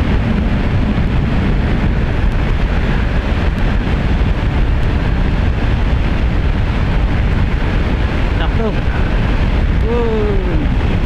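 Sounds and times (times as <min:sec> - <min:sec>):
road and engine noise: 0:00.0 - 0:11.0
wind buffeting microphone: 0:00.0 - 0:11.0.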